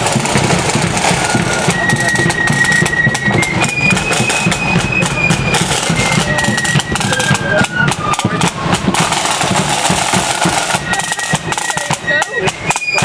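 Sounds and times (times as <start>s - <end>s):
marching band melody: 0.0s - 13.0s
snare and bass drums: 0.0s - 13.0s.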